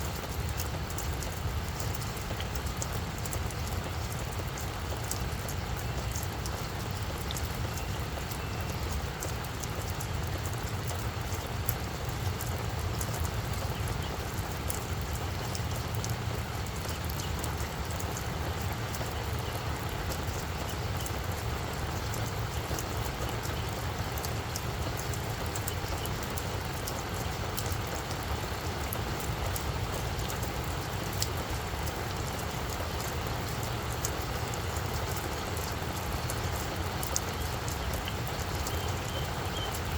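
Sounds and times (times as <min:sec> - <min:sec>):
rain falling on flower bed: 0:00.0 - 0:39.9.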